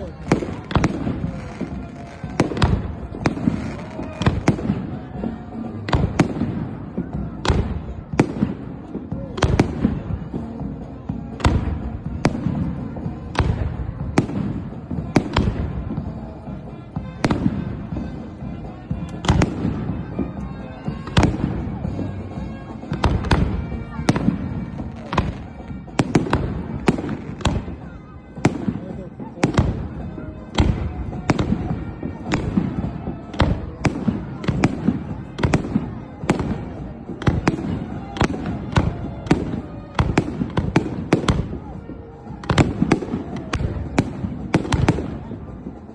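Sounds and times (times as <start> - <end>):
firework bangs: 0.0 - 45.9.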